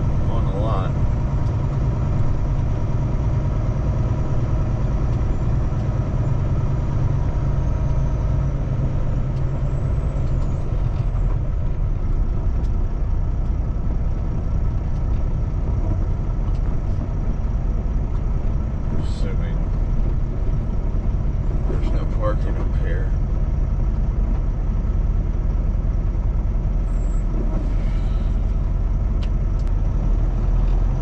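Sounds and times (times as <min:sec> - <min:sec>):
truck diesel engine rumbling: 0:00.0 - 0:31.0.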